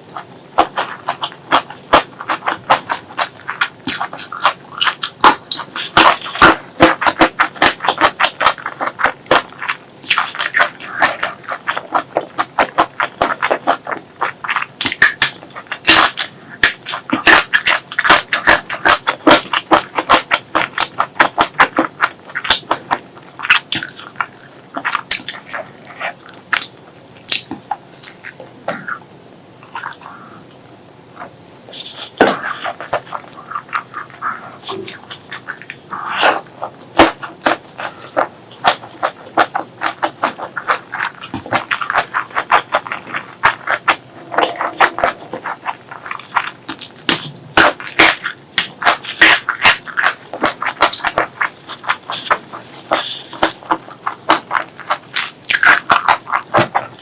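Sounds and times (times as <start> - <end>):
wet chewing and lip-smacking: 0.0 - 30.6, 31.2 - 57.0.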